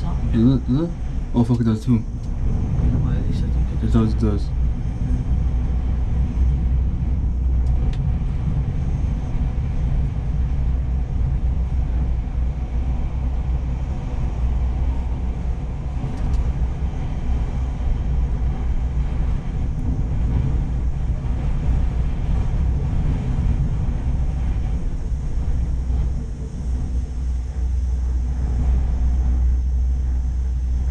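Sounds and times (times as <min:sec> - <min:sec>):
cable car cabin rumble: 0:00.0 - 0:30.9.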